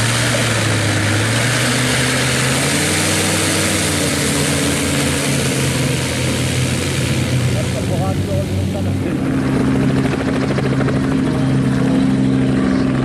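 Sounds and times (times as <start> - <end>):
propeller engine running: 0.0 - 13.0.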